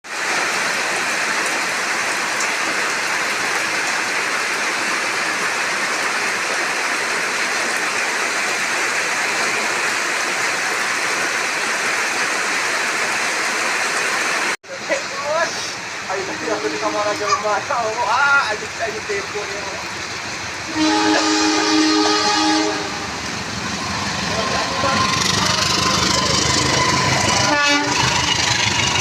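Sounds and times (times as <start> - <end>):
steady rain hiss: 0.1 - 29.0.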